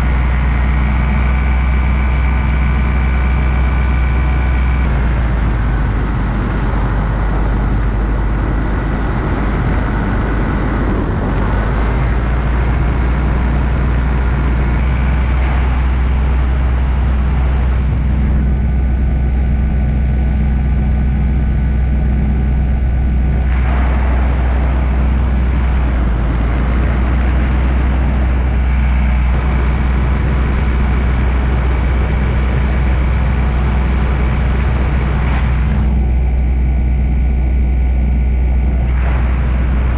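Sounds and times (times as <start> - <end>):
paramotor engine droning: 0.0 - 39.9
rushing wind: 0.0 - 39.9.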